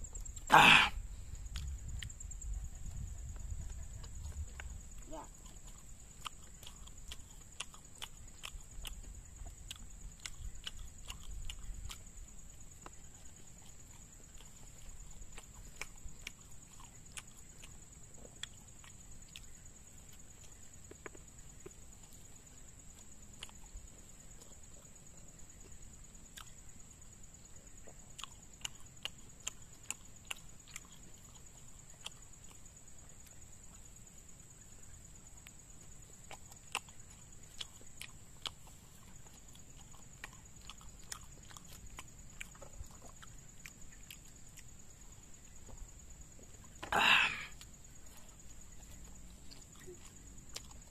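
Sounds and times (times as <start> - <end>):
chewing and lip smacking: 1.4 - 46.9, 47.5 - 50.9.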